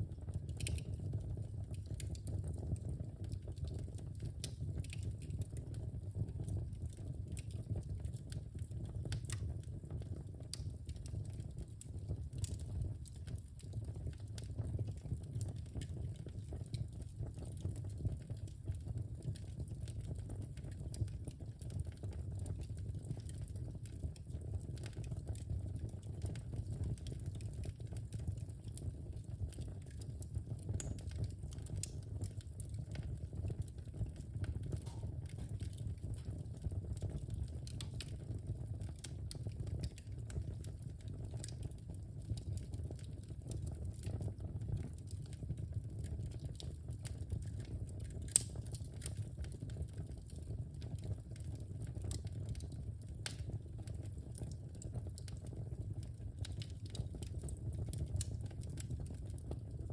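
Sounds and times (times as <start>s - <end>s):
fire rumbling: 0.0s - 59.9s
logs crackling and popping: 0.1s - 59.9s.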